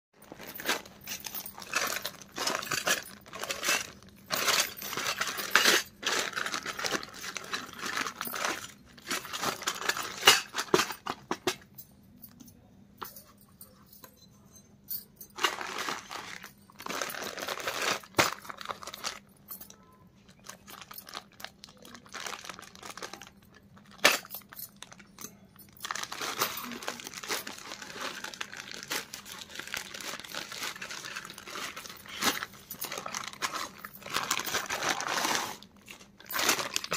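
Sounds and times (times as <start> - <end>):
plastic bag crinkling: 0.2 - 11.1, 15.4 - 19.3, 20.2 - 36.9.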